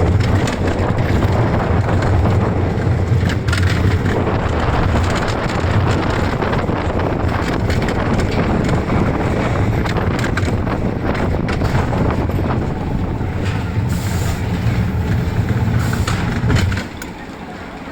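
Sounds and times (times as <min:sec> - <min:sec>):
roller coaster wheels clattering: 0:00.0 - 0:17.9
wind buffeting microphone: 0:00.0 - 0:17.9.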